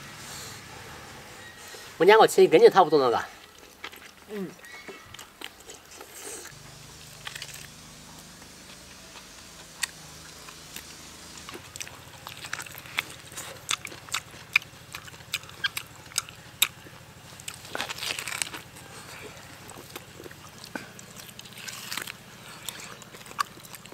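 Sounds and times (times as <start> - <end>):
chewing and wet mouth smacks: 3.4 - 23.9.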